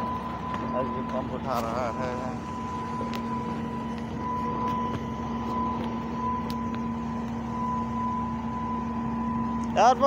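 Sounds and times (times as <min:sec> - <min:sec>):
pump engine hum: 0:00.0 - 0:10.0
thin steady whine: 0:00.0 - 0:10.0.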